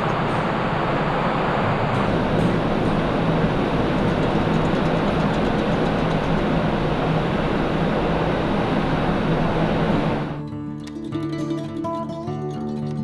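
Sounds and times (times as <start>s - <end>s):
ferry rushing water noise: 0.0s - 10.4s
low engine hum: 0.0s - 10.5s.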